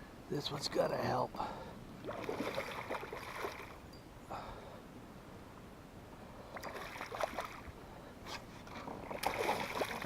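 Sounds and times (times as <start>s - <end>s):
faint water sounds: 0.0s - 10.0s.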